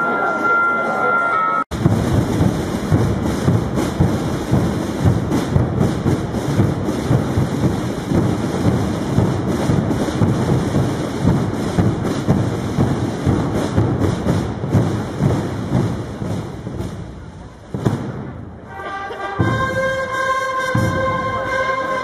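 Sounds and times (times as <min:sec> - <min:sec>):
drums and bass drums beating: 0:01.7 - 0:22.0.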